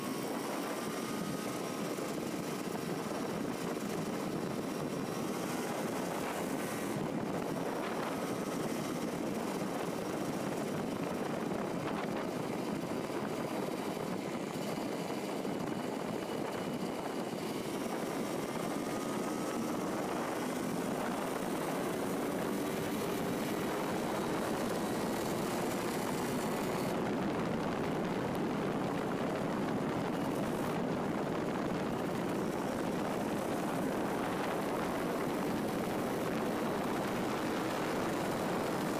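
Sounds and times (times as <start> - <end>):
two-stroke motorcycle engine: 0.0 - 38.9
wind and road noise: 0.0 - 38.9.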